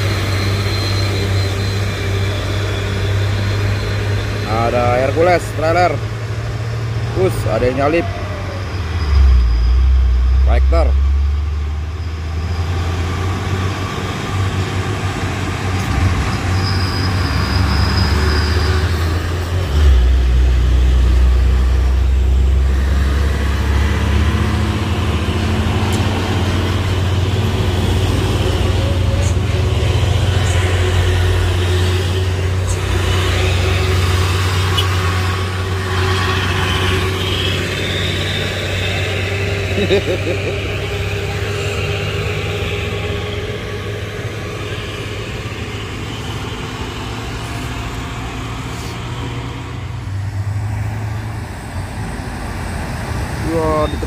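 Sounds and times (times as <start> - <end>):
deep engine rumble: 0.0 - 54.0
trucks and cars passing: 0.0 - 54.0.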